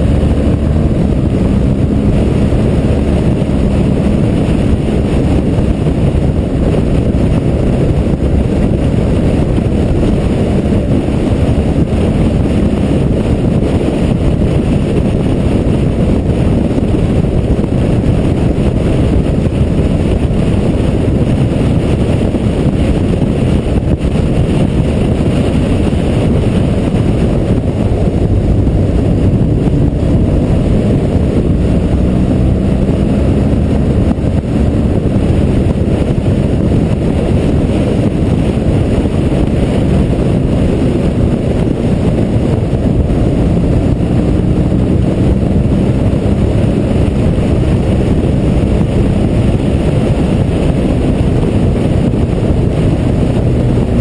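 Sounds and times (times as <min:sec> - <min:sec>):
motorcycle engine and tyres: 0:00.0 - 0:54.0
wind rumble on microphone: 0:00.0 - 0:54.0.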